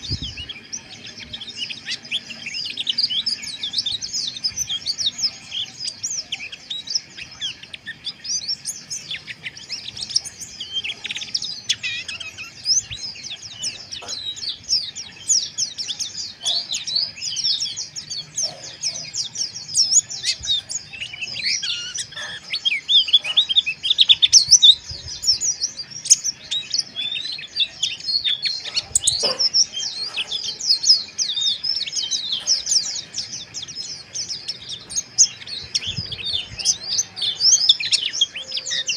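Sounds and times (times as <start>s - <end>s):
birds chirping rapidly: 0.0s - 38.9s.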